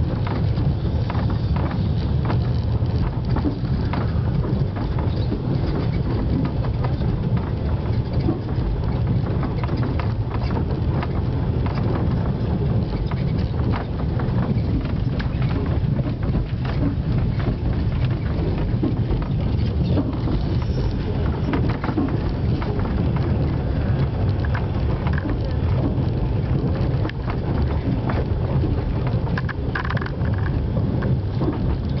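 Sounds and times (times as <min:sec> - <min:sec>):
clicks and rattles in carriage: 0:00.0 - 0:32.0
train wheels rumbling on rails: 0:00.0 - 0:32.0.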